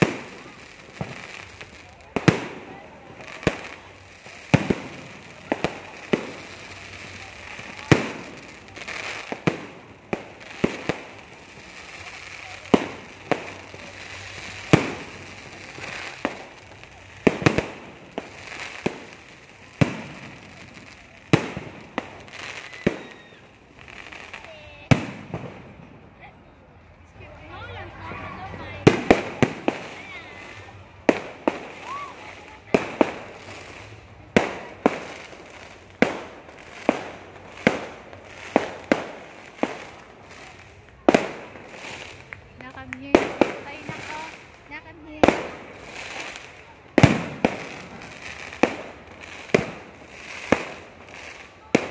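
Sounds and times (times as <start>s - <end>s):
fireworks bangs: 0.0s - 26.4s, 27.1s - 51.9s
crackling hiss: 0.0s - 51.9s.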